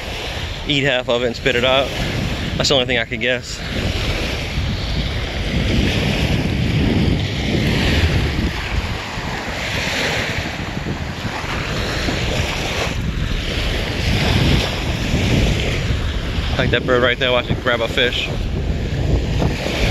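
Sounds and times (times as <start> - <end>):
small waves lapping on shore: 0.0 - 19.9
wind buffeting microphone: 0.0 - 19.9.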